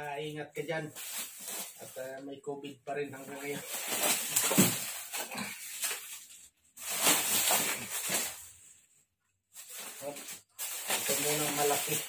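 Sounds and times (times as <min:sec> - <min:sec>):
plastic bag rustling: 0:00.8 - 0:02.2, 0:03.0 - 0:12.0.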